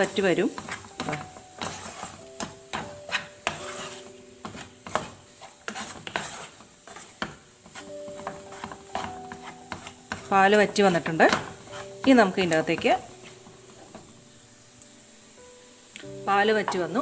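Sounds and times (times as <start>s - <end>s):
spoon scraping and knocking pan: 0.0s - 15.0s, 16.6s - 17.0s.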